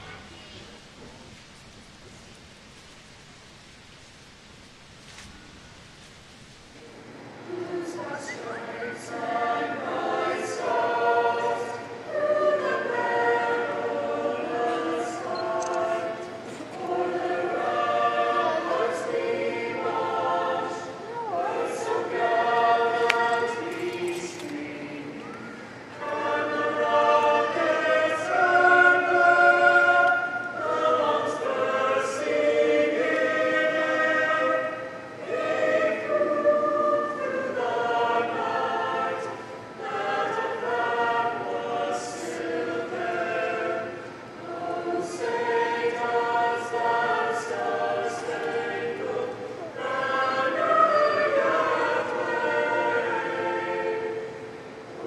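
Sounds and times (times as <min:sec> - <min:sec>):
choir singing held chords: 0:07.0 - 0:55.0.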